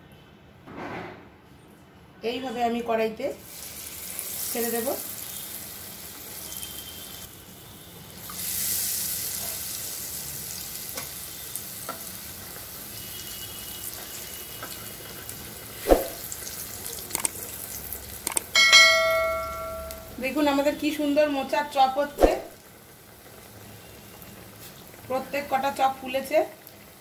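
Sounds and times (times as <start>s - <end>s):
food deep-frying in hot oil: 3.3s - 27.0s.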